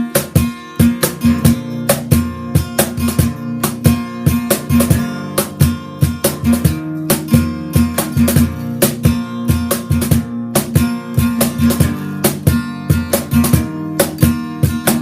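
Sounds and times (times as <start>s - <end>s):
acoustic guitar strumming chords: 0.0s - 15.0s
cajon beat: 0.0s - 15.0s.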